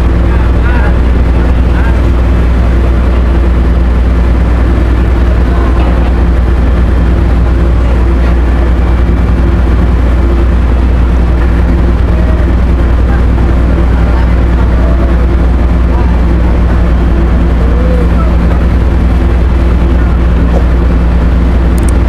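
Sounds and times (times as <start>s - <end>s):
ship engines droning: 0.0s - 22.0s.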